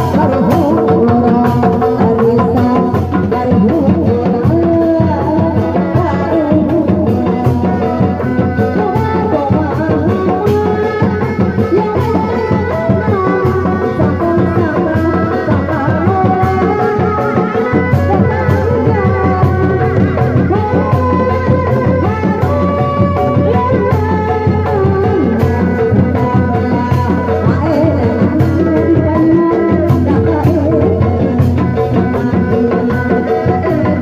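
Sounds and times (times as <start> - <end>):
drums keeping a steady beat: 0.0 - 34.0.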